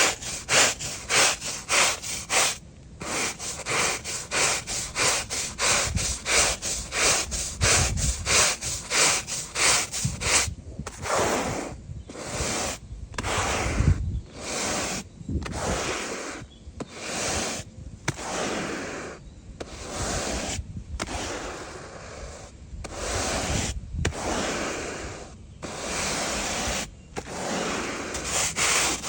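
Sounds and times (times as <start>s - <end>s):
stiff brush scrubbing tarmac: 0.0s - 29.0s.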